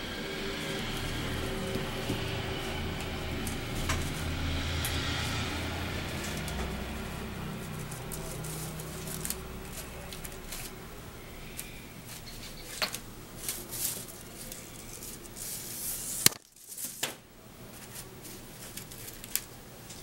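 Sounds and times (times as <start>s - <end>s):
paper strips rustling: 0.4s - 20.0s.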